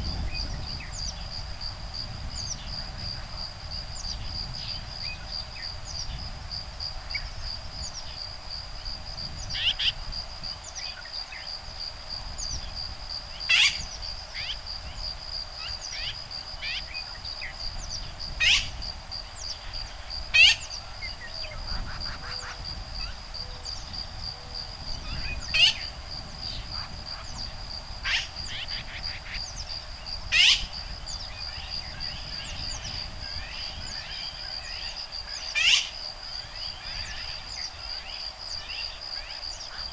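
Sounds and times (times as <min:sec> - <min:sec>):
insects whining: 0:00.0 - 0:39.9.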